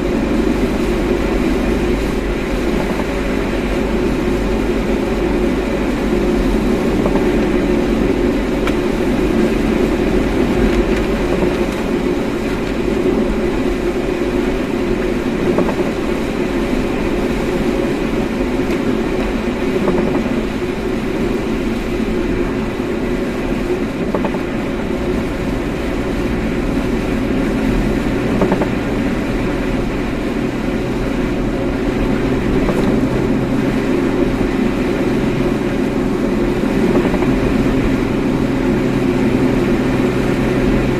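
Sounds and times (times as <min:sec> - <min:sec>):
car engine hum: 0:00.0 - 0:40.9
road rumble: 0:00.0 - 0:40.9.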